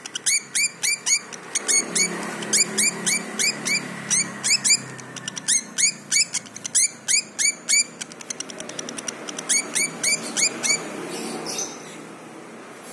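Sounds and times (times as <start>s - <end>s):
bird high sharp chirps: 0.0s - 11.9s.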